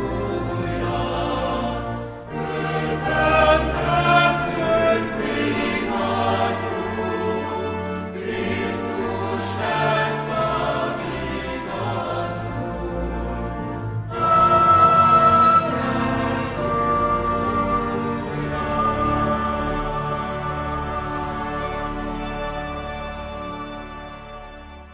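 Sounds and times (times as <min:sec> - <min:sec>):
choir singing: 0:00.0 - 0:24.9
organ chords: 0:00.0 - 0:24.9.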